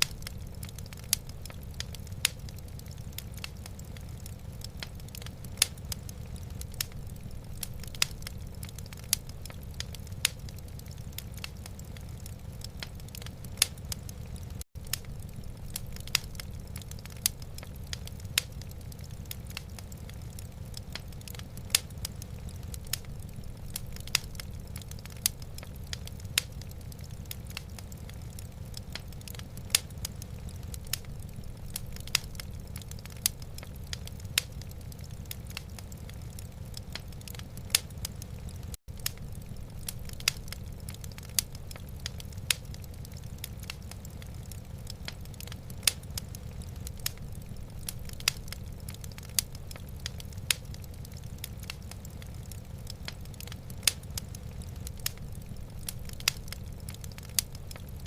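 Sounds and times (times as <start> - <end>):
low fire rumble: 0.0 - 58.0
wood fire popping: 0.0 - 58.0.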